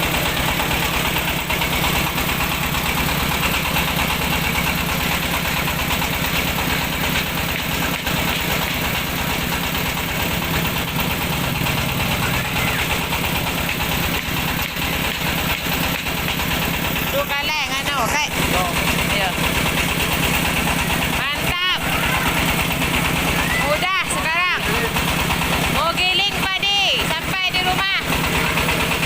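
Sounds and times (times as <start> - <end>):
engine throb: 0.0 - 29.0.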